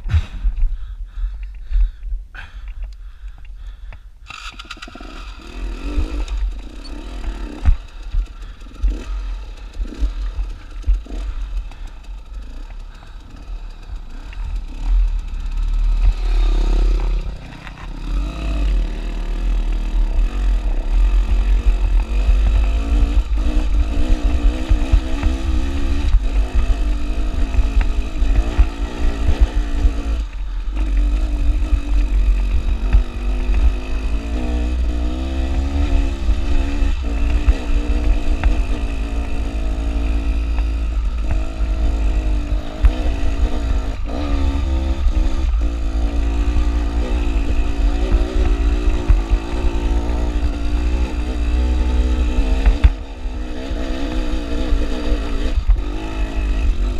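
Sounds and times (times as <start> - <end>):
dirt bike engine revving: 0.0 - 0.6, 4.3 - 56.9.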